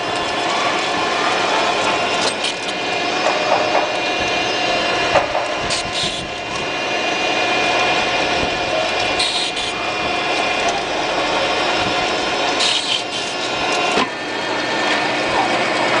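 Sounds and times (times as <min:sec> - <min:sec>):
milling machine motor whine: 0:00.0 - 0:16.0.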